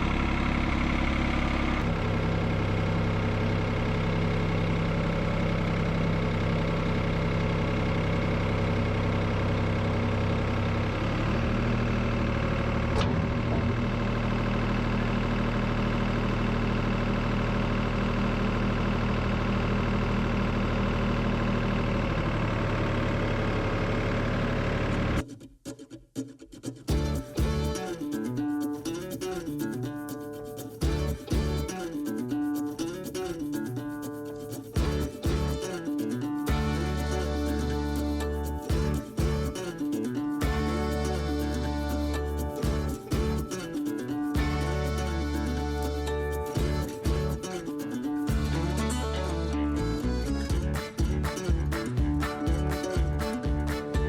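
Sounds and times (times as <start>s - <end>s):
engine running steadily: 0.0s - 25.2s, 26.9s - 27.8s, 30.8s - 31.7s, 34.3s - 54.0s.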